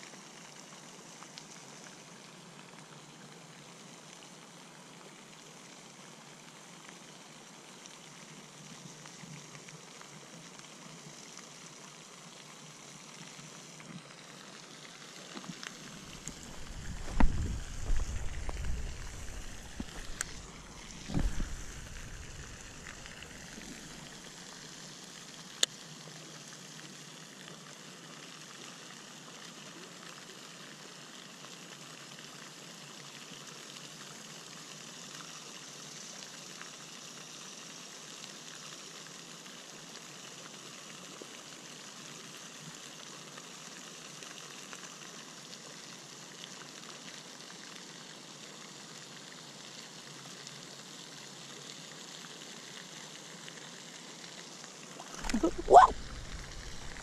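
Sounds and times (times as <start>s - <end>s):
fountain splashing: 0.0s - 57.0s.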